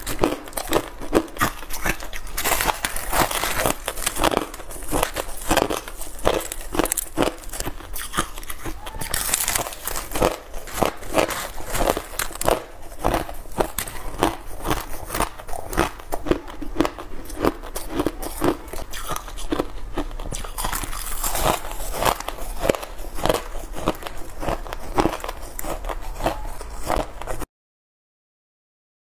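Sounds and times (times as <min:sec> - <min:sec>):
person crunching ice: 0:00.0 - 0:27.5.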